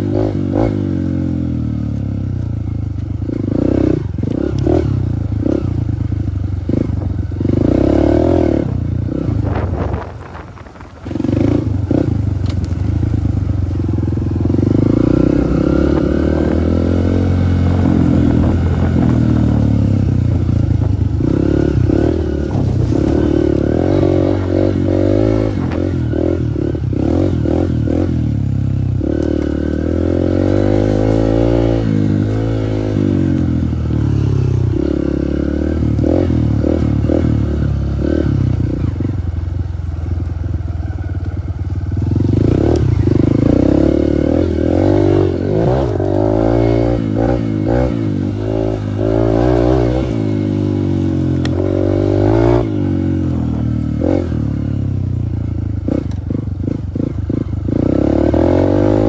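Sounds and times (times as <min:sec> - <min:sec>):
dirt bike engine revving: 0:00.0 - 0:01.9, 0:03.2 - 0:39.2, 0:41.9 - 0:59.0.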